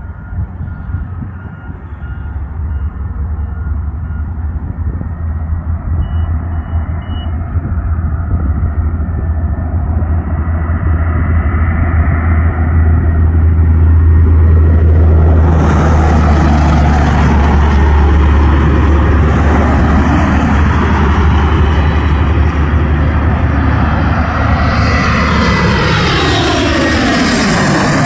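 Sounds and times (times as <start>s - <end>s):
jet airliner rumbling overhead: 0.0s - 28.0s.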